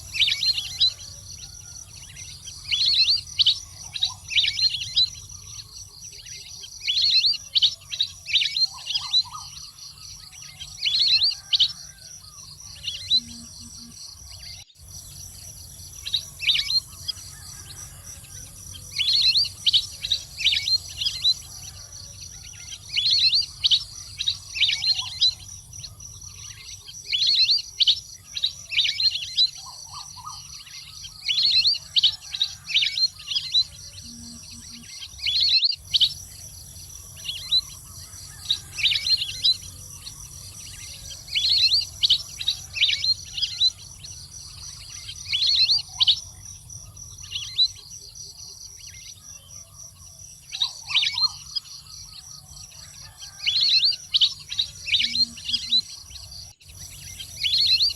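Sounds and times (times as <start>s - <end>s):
waterfowl chirping: 0.0s - 12.1s, 15.5s - 46.4s, 50.5s - 57.9s
steady high-pitched whine: 0.0s - 52.9s.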